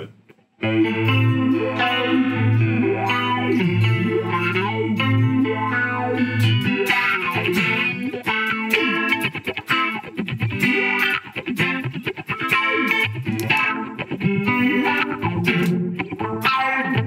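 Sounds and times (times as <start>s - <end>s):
electric guitar with chorus wobble: 0.0s - 17.0s.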